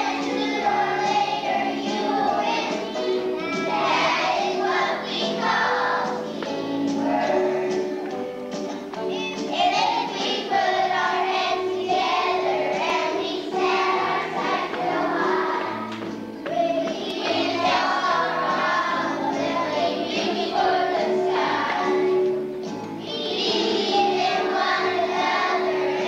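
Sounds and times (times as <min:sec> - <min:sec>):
musical accompaniment: 0:00.0 - 0:26.0
young children singing: 0:00.0 - 0:26.0.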